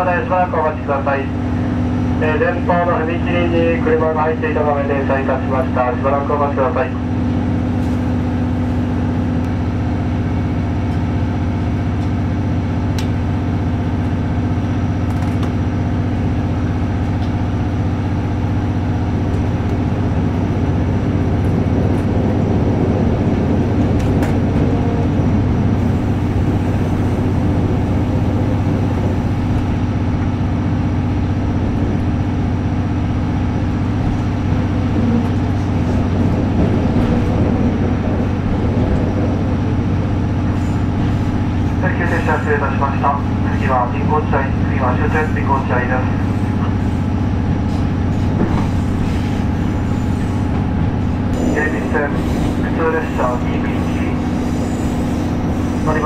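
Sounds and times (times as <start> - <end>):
diesel train engine idling: 0.0 - 56.0.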